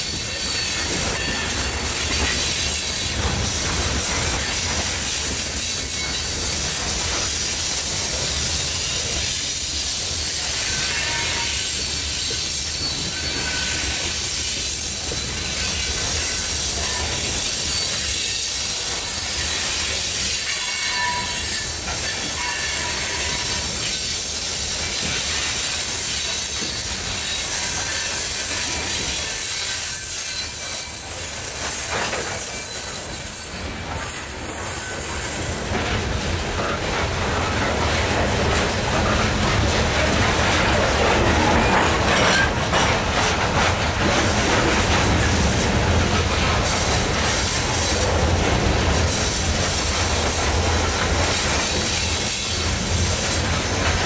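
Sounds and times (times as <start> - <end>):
freight train rolling past: 0.0 - 54.0
train car trucks knocking: 0.0 - 54.0.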